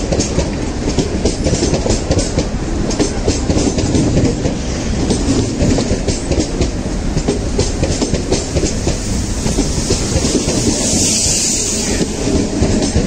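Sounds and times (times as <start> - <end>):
train coaches rumbling: 0.0 - 13.0
wheel clatter over rail joints: 0.0 - 13.0.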